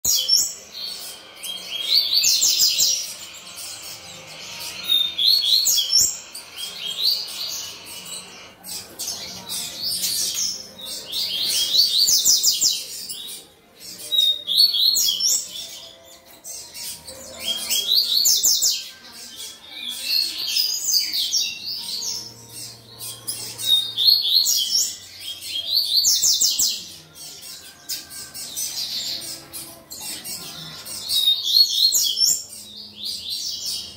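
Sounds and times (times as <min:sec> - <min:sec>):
bird singing high chirps: 0:00.0 - 0:33.9.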